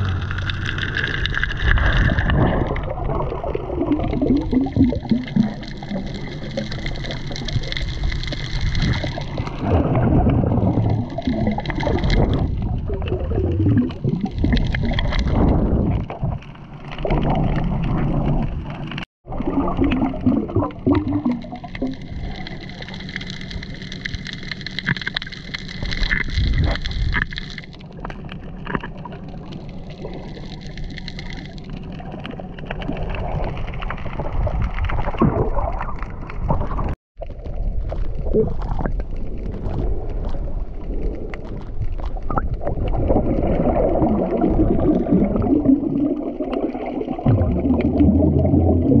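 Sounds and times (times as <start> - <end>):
underwater water gurgling: 0.0 - 49.0.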